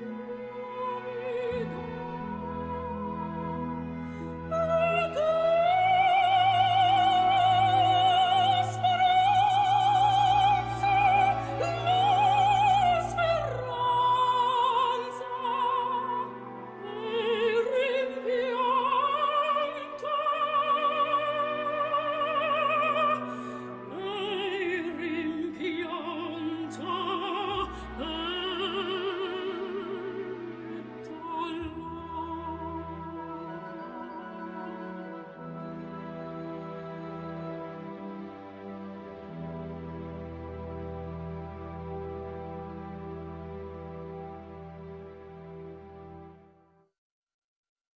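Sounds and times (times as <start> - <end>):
operatic singing with vibrato: 0.0 - 43.0.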